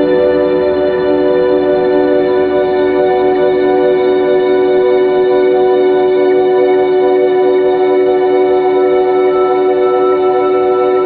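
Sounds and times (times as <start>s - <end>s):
echoing guitar-like tones: 0.0s - 11.0s.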